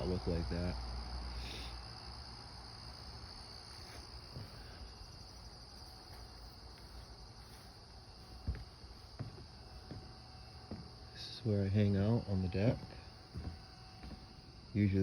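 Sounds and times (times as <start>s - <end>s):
insects singing: 0.0s - 15.0s.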